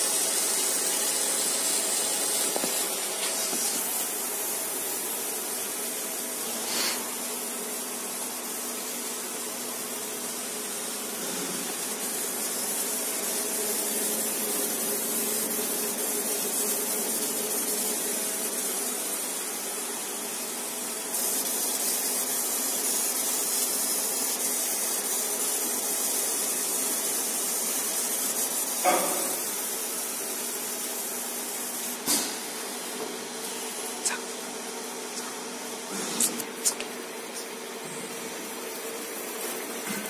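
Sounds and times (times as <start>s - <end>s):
hiss of air from machinery: 0.0s - 34.0s.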